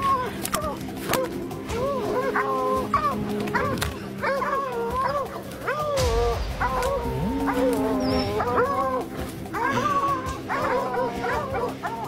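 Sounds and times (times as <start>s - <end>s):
dog whining: 0.0s - 12.0s.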